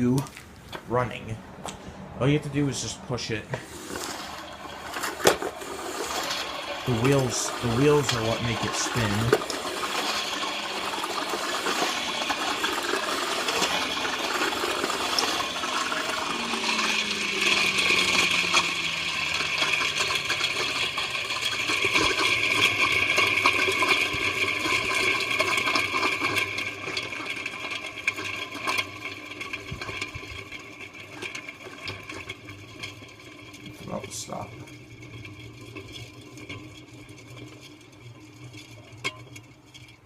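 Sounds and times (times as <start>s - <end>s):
push vacuum fan whirring and rattling: 0.0s - 40.0s.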